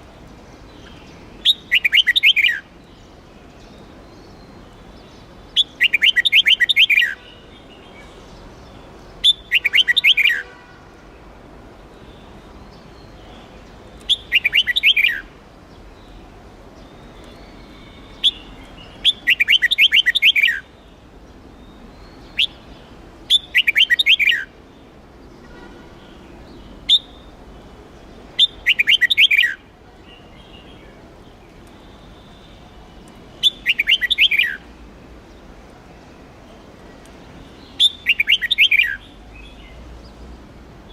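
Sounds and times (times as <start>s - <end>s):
bulbul singing falling phrases: 0.0s - 10.8s, 12.0s - 34.7s, 37.2s - 40.9s.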